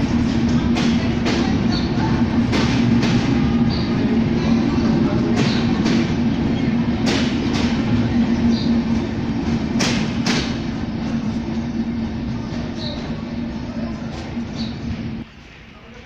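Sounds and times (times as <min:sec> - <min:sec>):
train wheels clacking over rail joints: 0:00.0 - 0:15.2
train rumble: 0:00.0 - 0:16.0.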